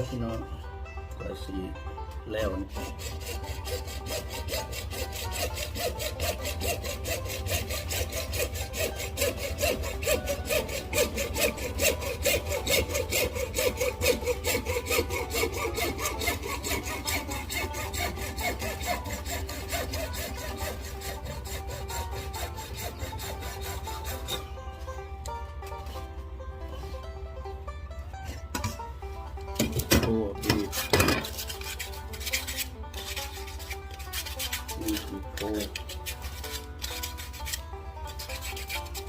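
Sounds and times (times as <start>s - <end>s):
hand tool scraping wood: 2.3s - 26.1s, 28.3s - 39.0s.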